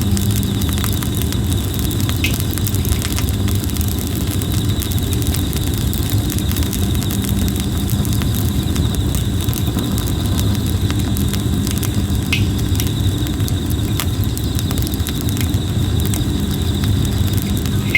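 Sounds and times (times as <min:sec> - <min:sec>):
campfire crackling and popping: 0:00.0 - 0:17.9
high insect trill: 0:00.0 - 0:17.9.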